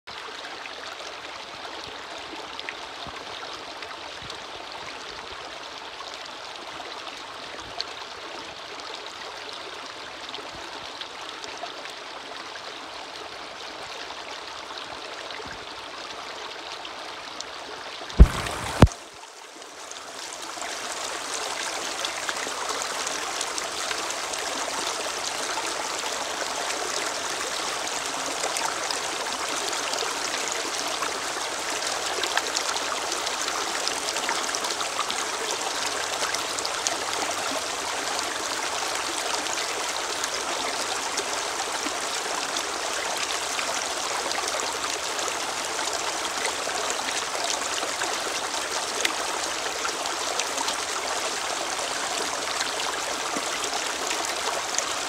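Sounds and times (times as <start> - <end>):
stream rushing over boulders: 0.1 - 55.0.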